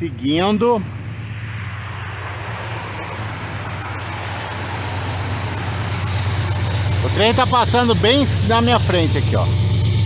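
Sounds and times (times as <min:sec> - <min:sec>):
freight train passing: 0:00.0 - 0:10.0.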